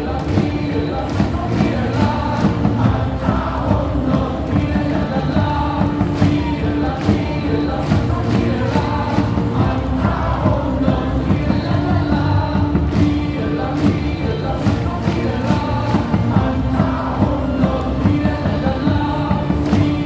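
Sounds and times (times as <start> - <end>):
crowd singing a cheer song: 0.0 - 20.0
loudspeaker music with beat: 0.0 - 20.0.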